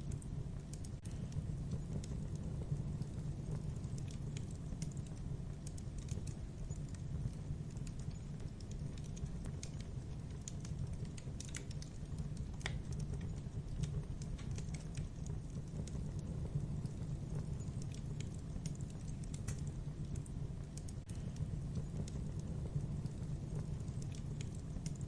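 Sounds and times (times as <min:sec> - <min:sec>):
fire crackling and popping: 0:00.0 - 0:25.0
low rumble of fire: 0:00.0 - 0:25.0.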